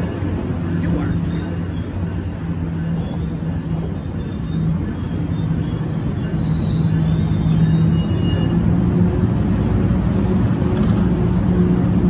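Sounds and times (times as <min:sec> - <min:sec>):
train humming and rumbling: 0:00.0 - 0:12.0.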